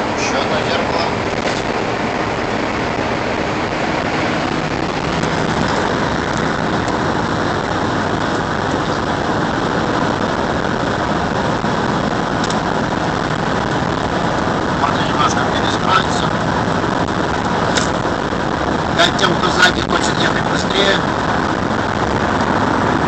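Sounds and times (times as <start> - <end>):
tyre and road noise: 0.0 - 23.0
wind rush: 0.0 - 23.0.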